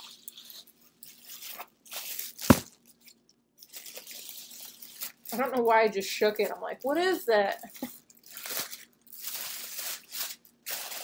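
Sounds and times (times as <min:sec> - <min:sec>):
tissue paper rustling: 0:00.0 - 0:06.6, 0:07.5 - 0:11.0.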